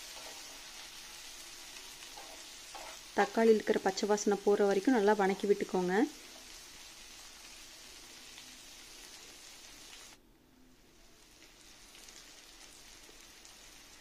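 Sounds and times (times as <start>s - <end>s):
food sizzling in oil: 0.0s - 10.2s, 10.9s - 14.0s.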